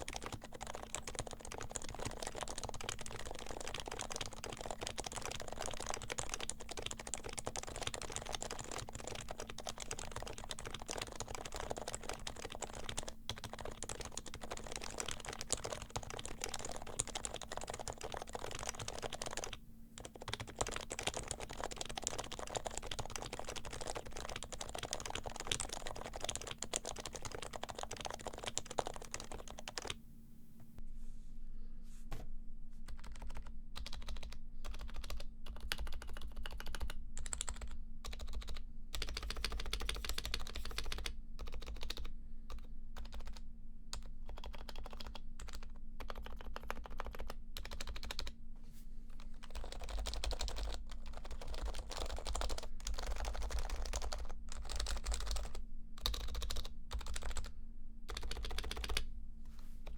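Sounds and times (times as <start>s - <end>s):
muted keyboard typing: 0.0s - 30.0s, 32.9s - 48.3s, 49.4s - 57.5s, 58.1s - 59.0s.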